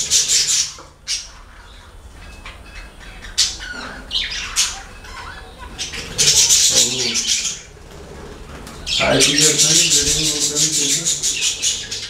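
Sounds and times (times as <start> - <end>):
bird squawks: 0.0 - 12.0
birds chattering: 0.0 - 12.0.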